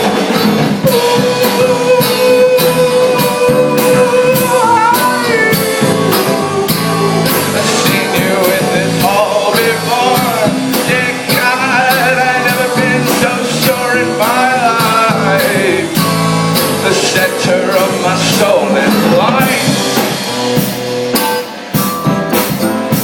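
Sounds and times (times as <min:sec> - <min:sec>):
rock song with singing: 0:00.0 - 0:23.0.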